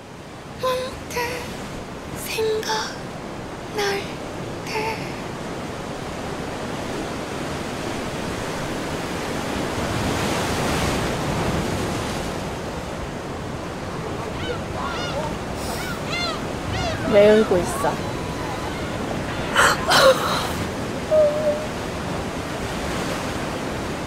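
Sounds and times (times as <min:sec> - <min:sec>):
sea surf washing ashore: 0:00.0 - 0:24.0.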